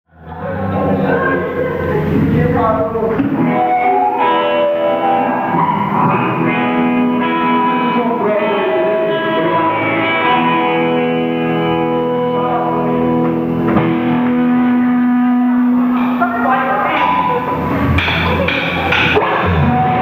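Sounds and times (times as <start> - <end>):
electric guitars ringing: 0.1 - 20.0
rock band playing live: 0.6 - 20.0.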